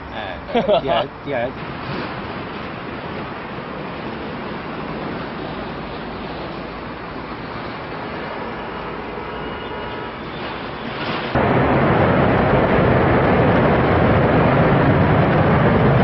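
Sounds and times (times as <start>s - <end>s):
distant jet engines rushing: 0.0s - 16.0s.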